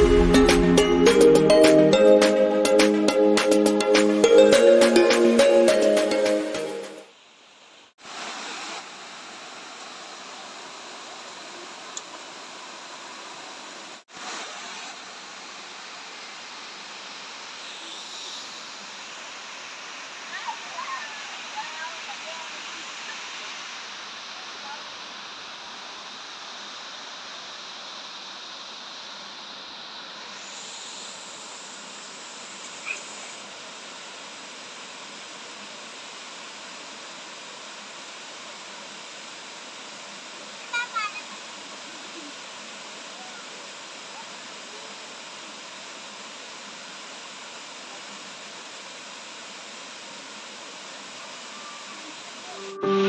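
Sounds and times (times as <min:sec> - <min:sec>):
falling water rushing: 0:00.0 - 0:53.0.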